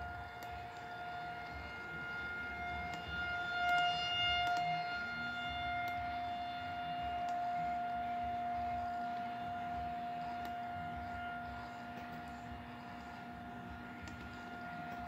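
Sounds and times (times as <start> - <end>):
tornado siren steady tone: 0.0 - 15.0.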